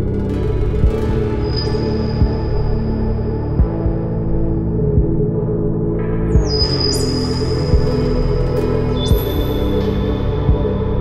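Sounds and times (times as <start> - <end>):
soft low beat: 0.0 - 11.0.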